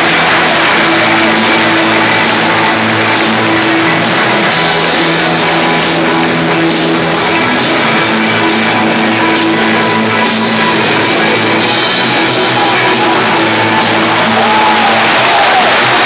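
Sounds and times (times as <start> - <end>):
crowd clapping: 0.0 - 16.0
crowd noise: 0.0 - 16.0
rock music over loudspeakers: 0.0 - 16.0.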